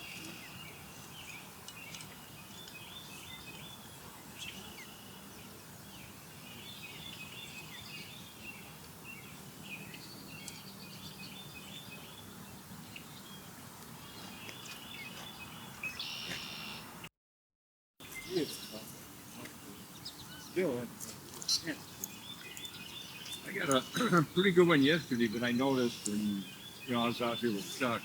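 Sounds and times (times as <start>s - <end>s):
birds chirping: 0.0s - 17.0s, 18.0s - 28.0s.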